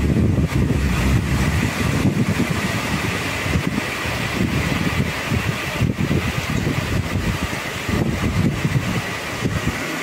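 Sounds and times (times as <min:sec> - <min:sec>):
heavy rain and hail: 0:00.0 - 0:10.0
wind blasting the microphone: 0:00.0 - 0:10.0.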